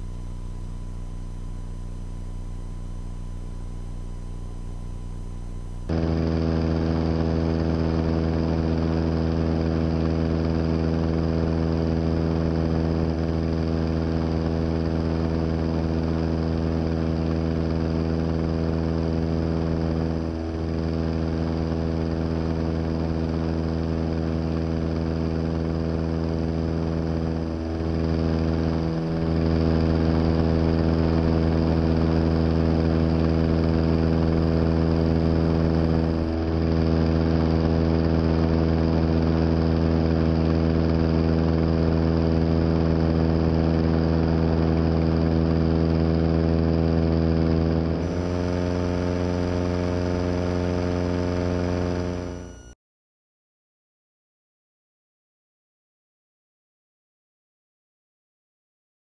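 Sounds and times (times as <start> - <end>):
propeller plane engine drone: 0.0 - 52.8.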